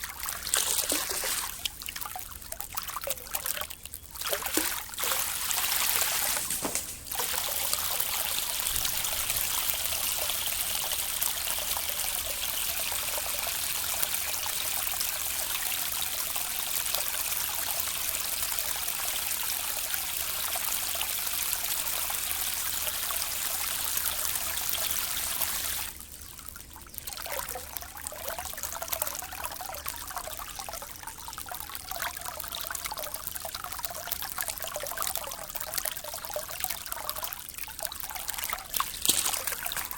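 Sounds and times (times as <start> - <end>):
water trickling and rippling: 0.0 - 39.9.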